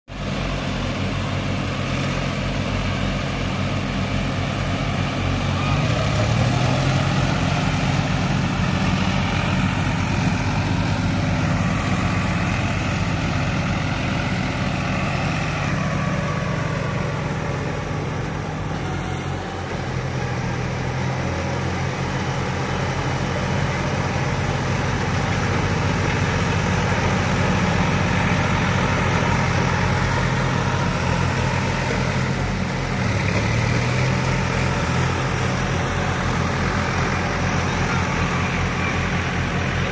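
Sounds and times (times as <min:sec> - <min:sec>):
tractor engines droning under load: 0:00.1 - 0:39.9.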